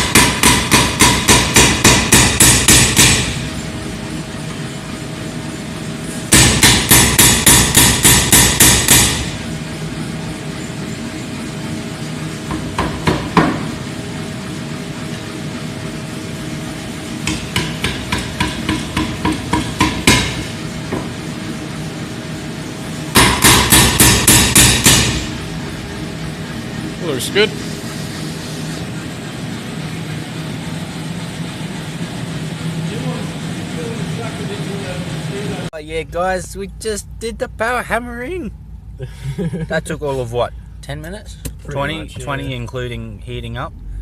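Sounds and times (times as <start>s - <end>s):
steady machine hum: 0.0s - 44.0s.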